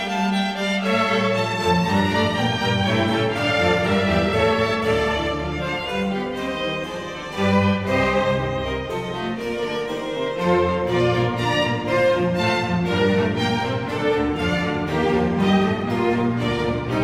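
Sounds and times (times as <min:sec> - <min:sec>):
bowed strings music: 0:00.0 - 0:17.0.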